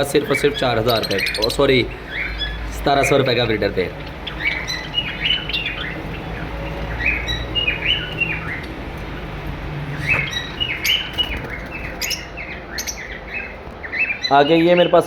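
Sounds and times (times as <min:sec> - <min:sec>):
low steady hum: 0:00.0 - 0:14.1
small birds chirping: 0:00.0 - 0:15.0.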